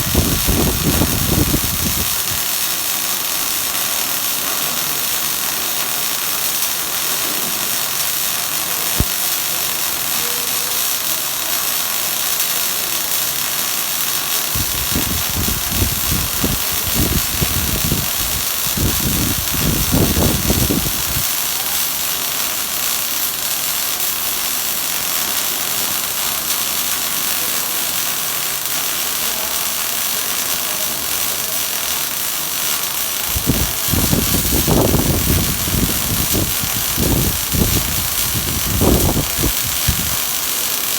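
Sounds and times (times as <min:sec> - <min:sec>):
welding arc hissing: 0:00.0 - 0:40.9.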